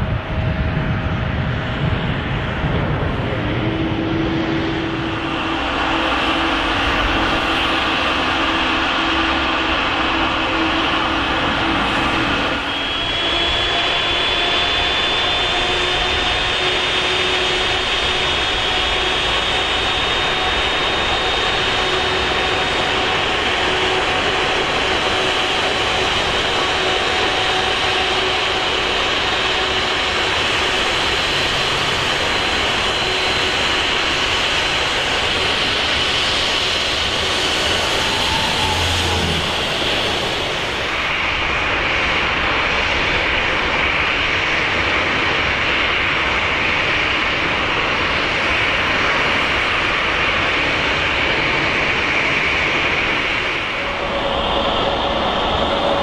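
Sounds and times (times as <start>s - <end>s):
jet engines with high whine: 0.0s - 56.0s.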